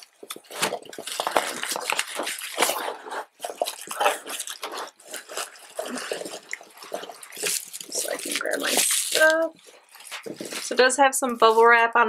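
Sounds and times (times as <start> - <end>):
hands rustling foam packing peanuts: 0.0 - 11.9.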